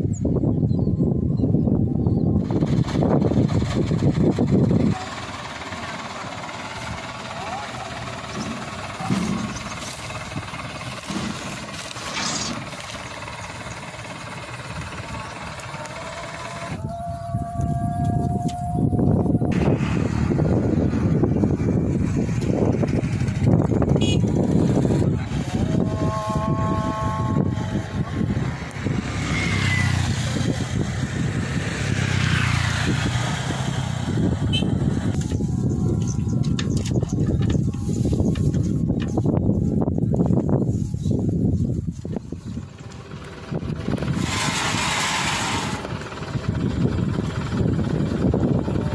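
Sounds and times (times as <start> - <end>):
diesel engine idling: 1.0 - 48.9.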